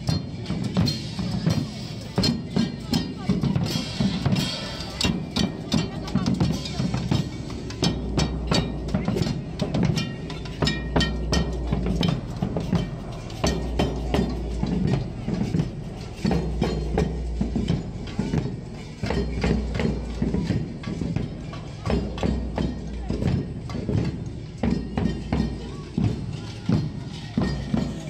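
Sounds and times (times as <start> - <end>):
drum band beating: 0.0 - 28.0.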